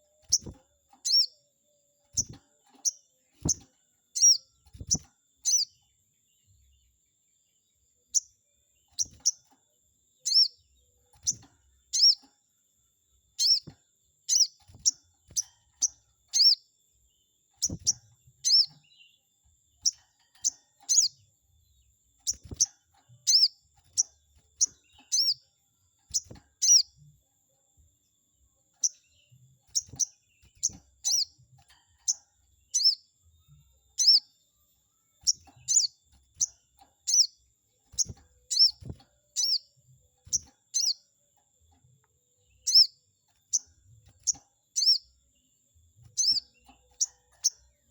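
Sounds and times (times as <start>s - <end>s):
bird chirping high-pitched: 0.0s - 5.9s, 8.1s - 9.6s, 10.2s - 12.3s, 13.3s - 16.8s, 17.5s - 21.3s, 22.2s - 27.1s, 28.7s - 41.7s, 42.3s - 47.9s.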